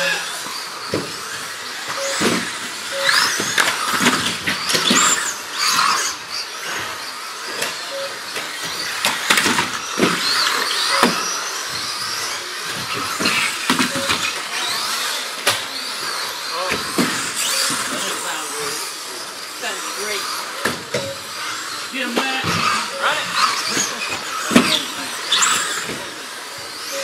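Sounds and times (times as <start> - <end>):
rc car motors whining: 0.0 - 27.0.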